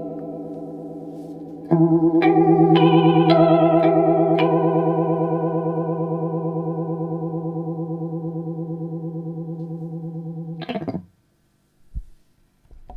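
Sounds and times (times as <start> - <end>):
electric guitar chord with chorus: 0.0 - 11.0.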